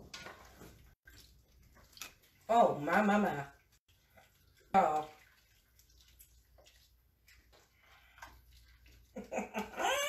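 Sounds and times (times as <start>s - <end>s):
liquid sloshing: 0.0s - 9.8s.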